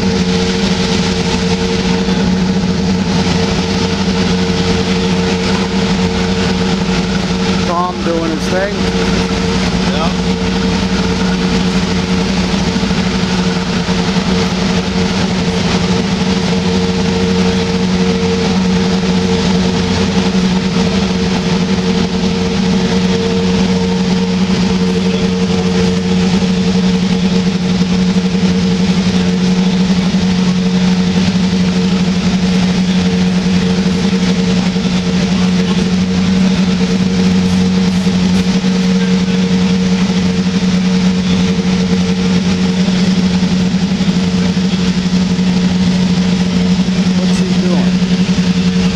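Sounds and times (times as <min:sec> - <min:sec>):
steady mechanical drone: 0:00.0 - 0:48.9.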